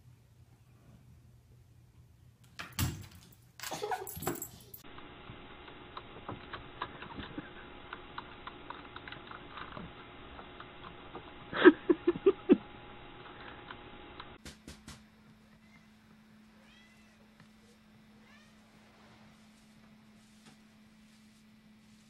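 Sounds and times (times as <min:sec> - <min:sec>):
steady low hum: 0:04.2 - 0:22.0.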